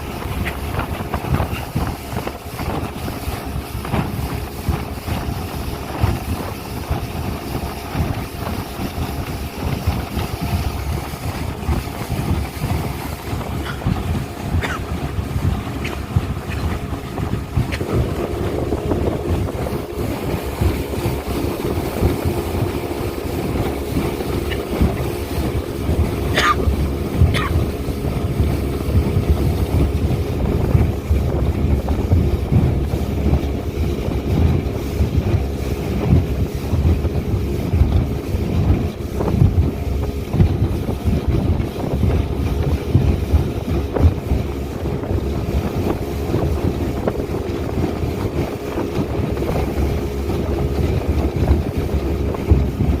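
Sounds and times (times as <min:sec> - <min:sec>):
speedboat engine running: 0:00.0 - 0:53.0
wind buffeting microphone: 0:00.0 - 0:53.0.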